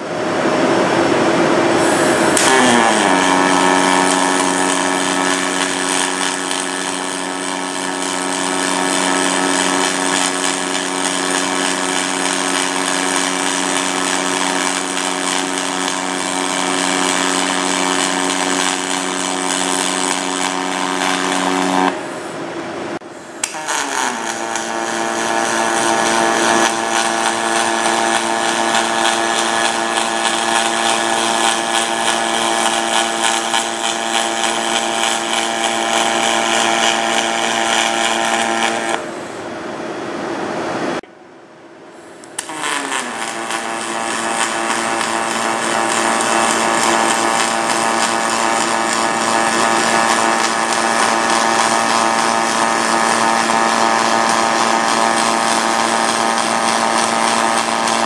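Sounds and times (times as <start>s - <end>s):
welding arc buzzing hiss: 1.6s - 39.5s, 42.0s - 58.0s.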